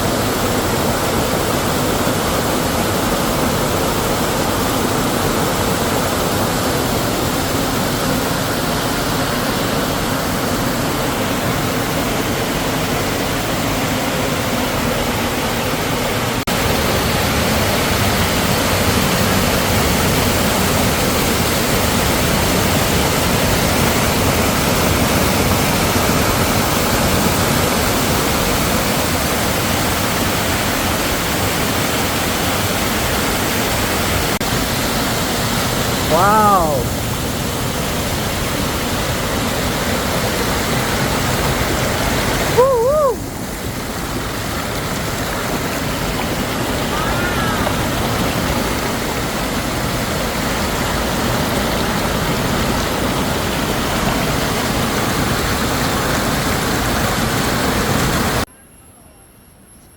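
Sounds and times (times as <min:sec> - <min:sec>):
waterfall rushing: 0:00.0 - 0:58.5.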